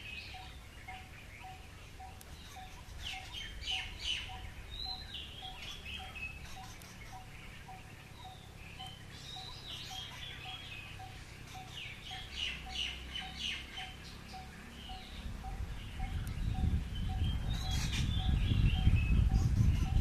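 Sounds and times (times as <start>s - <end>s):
sharp bird chirps: 0.0s - 20.0s.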